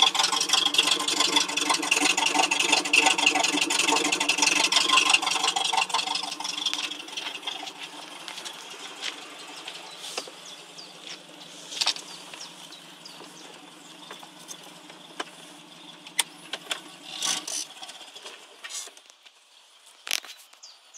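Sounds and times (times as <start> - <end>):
engine clicks and knocks: 0.0 - 19.2
car engine idling: 0.0 - 20.9.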